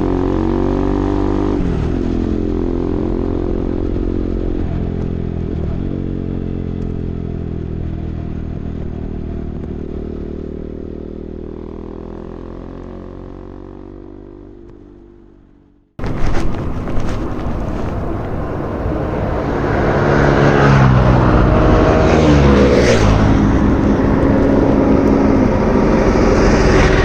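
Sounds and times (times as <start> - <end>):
motorcycle engine at highway speed: 0.0 - 27.0.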